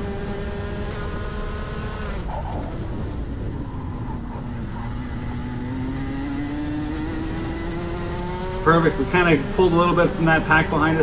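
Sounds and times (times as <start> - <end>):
kart engine revving: 0.0 - 11.0.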